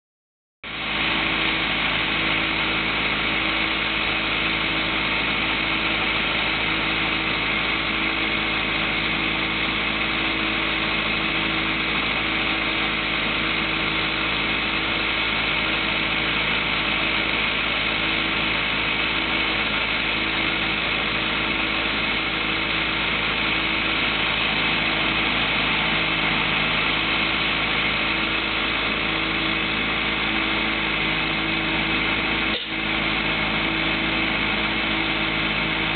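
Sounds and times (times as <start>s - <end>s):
diesel engine running: 0.6s - 35.9s.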